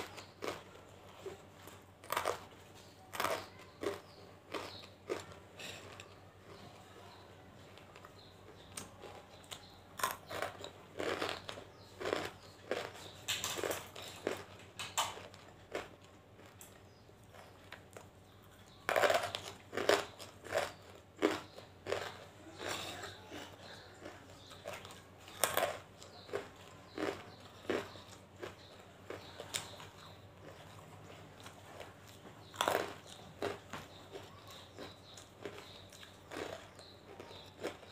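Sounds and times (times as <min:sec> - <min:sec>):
crisp crunching while chewing: 0:00.0 - 0:37.9.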